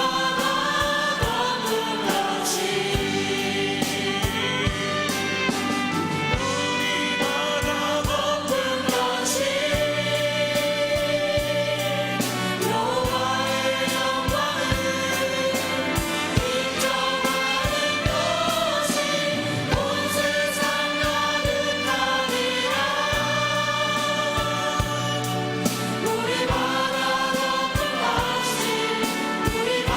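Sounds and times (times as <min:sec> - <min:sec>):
choir singing with band: 0:00.0 - 0:29.9.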